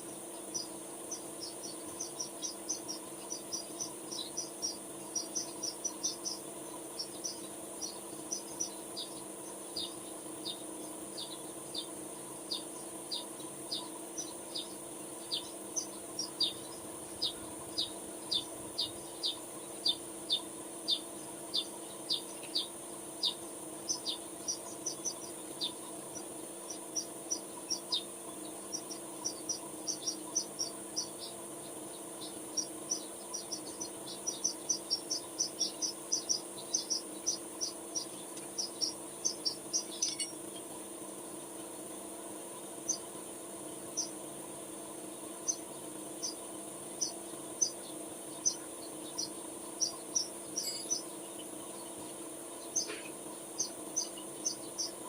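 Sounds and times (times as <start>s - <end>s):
steady hum: 0.0s - 55.0s
small animal chirping: 0.4s - 40.7s, 42.8s - 43.1s, 43.9s - 44.2s, 45.4s - 55.0s.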